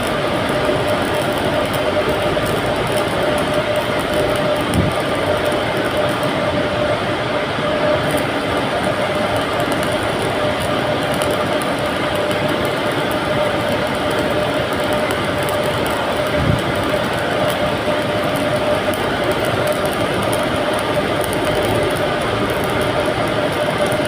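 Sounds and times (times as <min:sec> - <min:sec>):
electric welding arc: 0:00.0 - 0:24.0.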